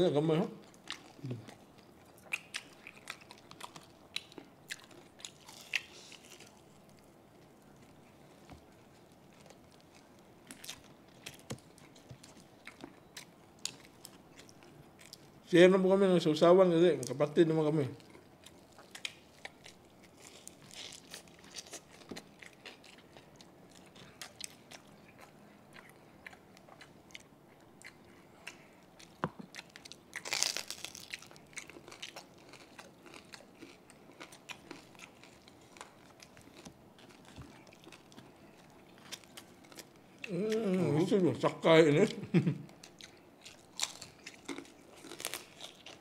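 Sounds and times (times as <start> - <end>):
chewing and crunching: 0.6 - 15.5, 17.9 - 41.6, 42.7 - 46.0.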